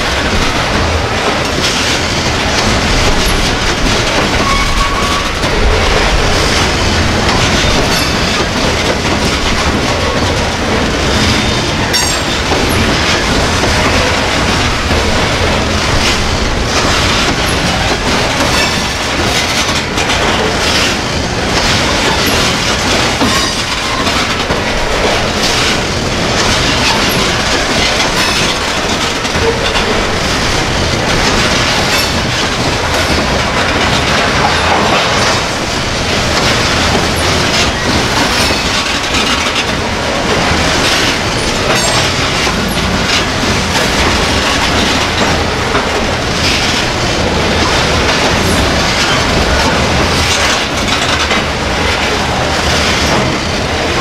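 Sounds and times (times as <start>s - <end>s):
steel train wheels on rail: 0.0s - 54.0s
wheels clicking over rail joints: 0.0s - 54.0s.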